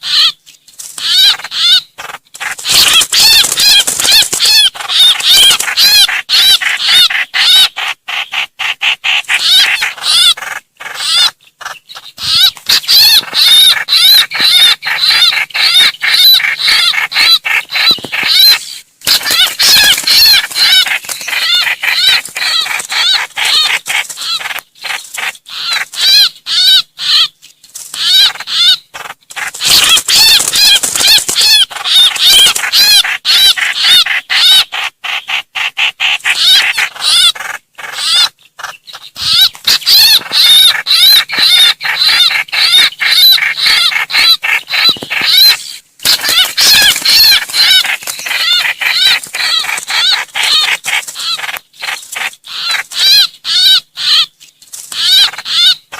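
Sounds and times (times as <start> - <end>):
bird harsh repeated chirps: 0.0 - 55.9.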